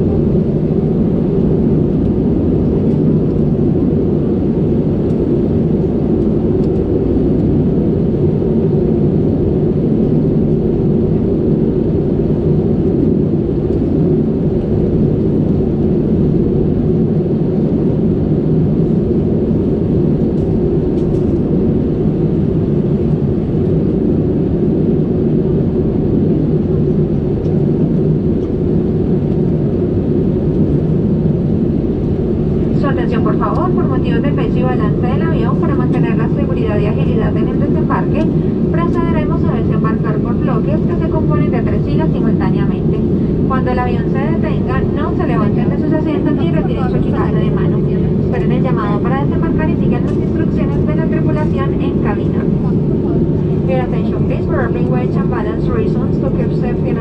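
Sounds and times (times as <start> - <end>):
jet engine and airflow drone: 0.0 - 57.0.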